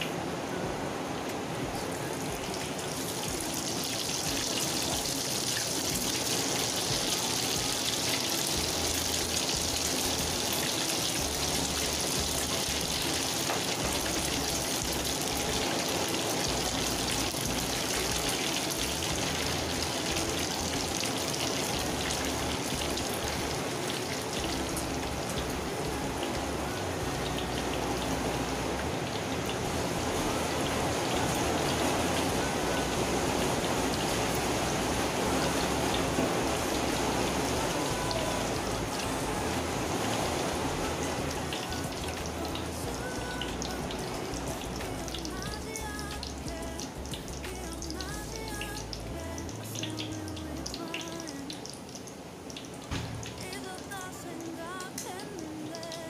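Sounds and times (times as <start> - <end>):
batter sizzling in hot oil: 1.8 - 55.6.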